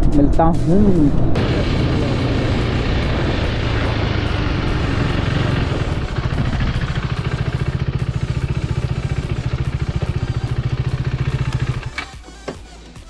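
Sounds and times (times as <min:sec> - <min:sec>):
riding noise rush: 0:00.0 - 0:11.9
motorcycle engine throbbing: 0:00.0 - 0:12.6.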